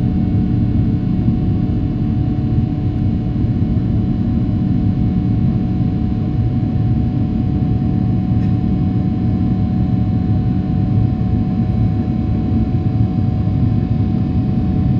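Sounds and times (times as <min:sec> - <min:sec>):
aircraft cabin drone: 0:00.0 - 0:14.9.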